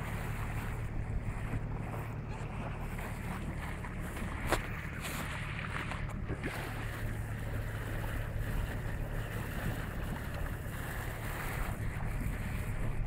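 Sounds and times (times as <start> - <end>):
steady low hum: 0.0 - 13.0
water rushing along hull: 0.0 - 13.0
wind buffeting microphone: 0.0 - 13.0.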